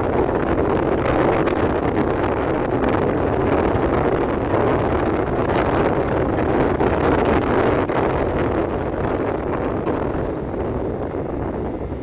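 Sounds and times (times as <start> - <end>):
low rumble: 0.0 - 12.0
wind noise on microphone: 0.0 - 12.0.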